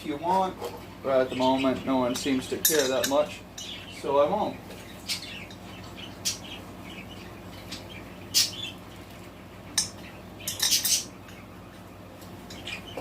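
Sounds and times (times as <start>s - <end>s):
budgerigars chirping: 0.1s - 2.4s, 3.1s - 11.5s, 12.5s - 13.0s.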